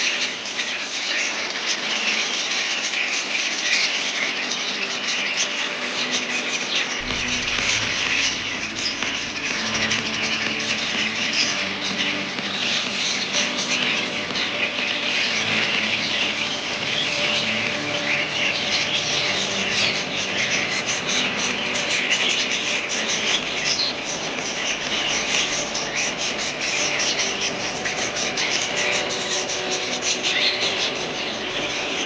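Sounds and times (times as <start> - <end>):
flock of budgerigars chattering: 0.0 - 32.0.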